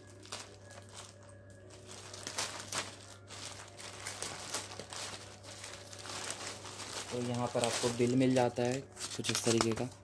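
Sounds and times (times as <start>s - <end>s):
plastic mailer crinkling: 0.0s - 10.0s.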